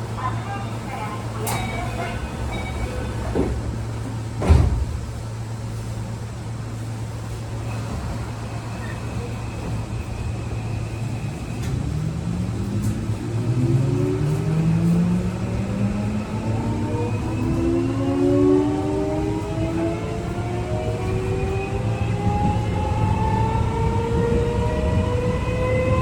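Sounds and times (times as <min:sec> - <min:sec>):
train low hum: 0:00.0 - 0:26.0.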